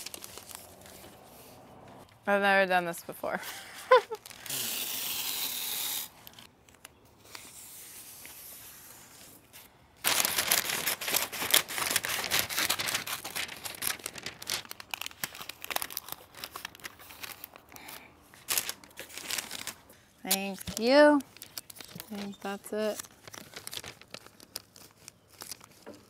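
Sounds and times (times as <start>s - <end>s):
paper crinkling and rustling: 0.0s - 1.6s, 3.6s - 4.5s, 6.2s - 26.0s.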